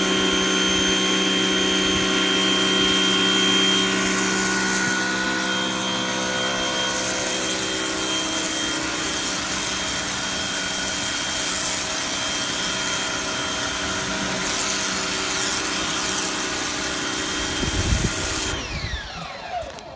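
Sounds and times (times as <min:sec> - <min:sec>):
water jet hissing on concrete: 0:00.0 - 0:18.8
motor winding down whine: 0:00.0 - 0:19.9
pressure washer motor humming: 0:00.0 - 0:19.9.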